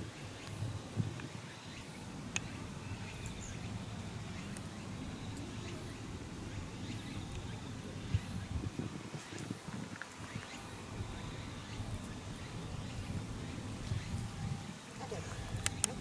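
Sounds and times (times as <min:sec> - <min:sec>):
faint bird-like calls: 0:00.0 - 0:16.0
steady low rumble: 0:00.0 - 0:16.0.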